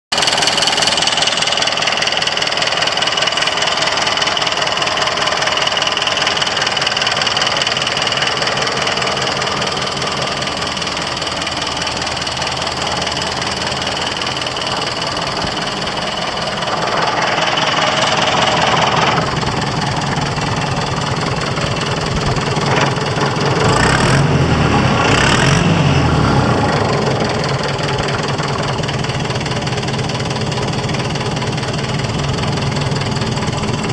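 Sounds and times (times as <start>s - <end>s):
tractor diesel engine knocking: 0.1s - 33.9s.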